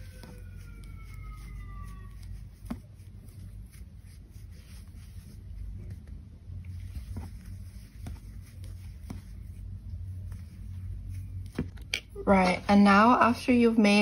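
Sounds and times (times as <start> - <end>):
crochet hook scratching yarn: 0.0 - 12.7
low steady hum: 0.0 - 14.0.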